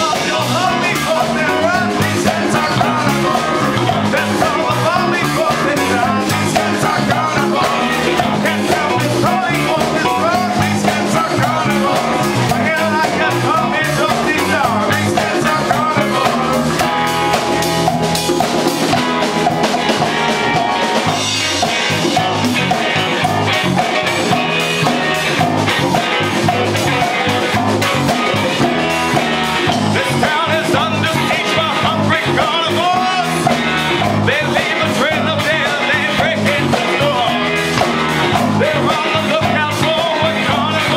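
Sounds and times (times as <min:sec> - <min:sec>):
congas: 0:00.0 - 0:40.9
drum kit: 0:00.0 - 0:40.9
electric bass: 0:00.0 - 0:40.9
guitar: 0:00.0 - 0:40.9
keyboard: 0:00.0 - 0:40.9.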